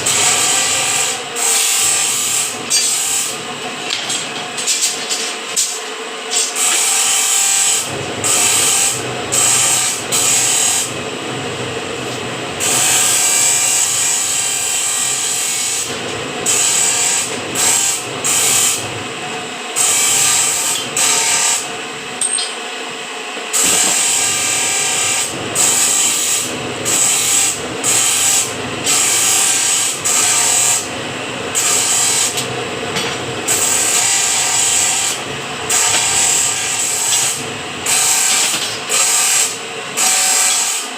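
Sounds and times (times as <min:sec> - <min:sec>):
power machine cutting steel: 0:00.0 - 0:11.2, 0:11.8 - 0:22.7, 0:23.4 - 0:40.9.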